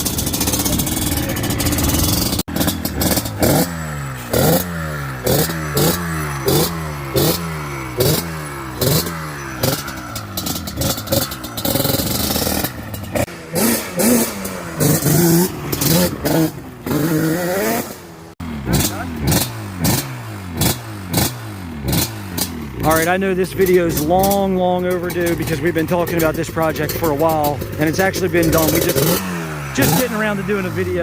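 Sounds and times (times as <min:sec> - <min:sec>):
two-stroke engine revving: 0:00.0 - 0:31.0.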